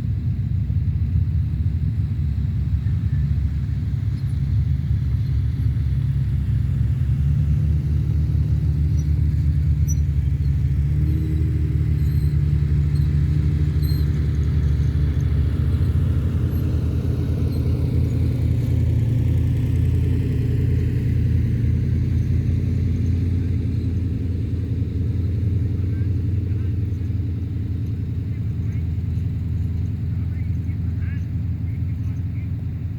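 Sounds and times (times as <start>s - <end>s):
vehicle engine rumbling: 0.0s - 32.9s.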